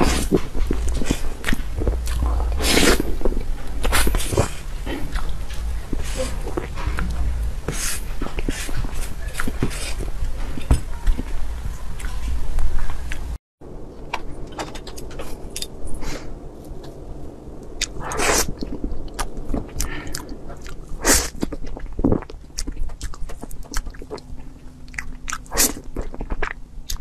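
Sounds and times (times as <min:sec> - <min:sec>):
chewing: 0:00.0 - 0:13.3, 0:17.8 - 0:27.0.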